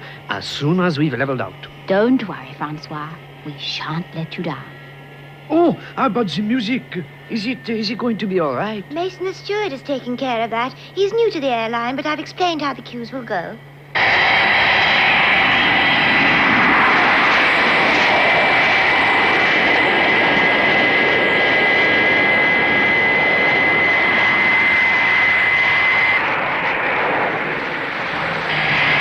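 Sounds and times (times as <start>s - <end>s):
high engine whine: 0.0s - 29.0s
jet engines rushing: 0.0s - 29.0s.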